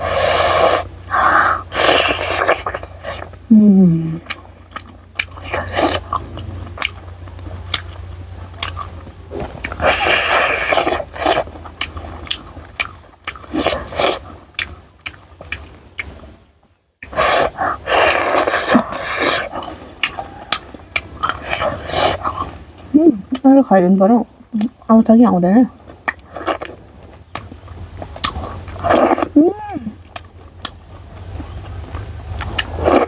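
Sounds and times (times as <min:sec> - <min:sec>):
person chewing food: 0:00.0 - 0:16.4, 0:17.0 - 0:23.4, 0:25.7 - 0:33.0.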